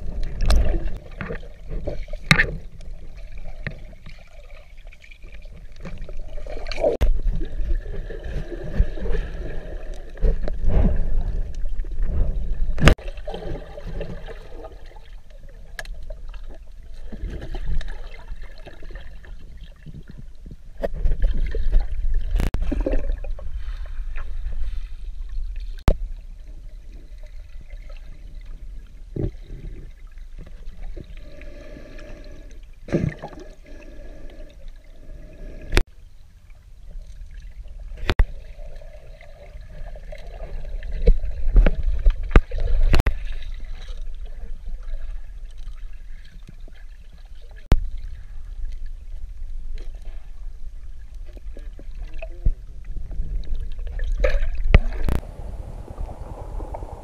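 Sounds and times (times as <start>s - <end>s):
underwater gurgling rumble: 0.0s - 57.0s.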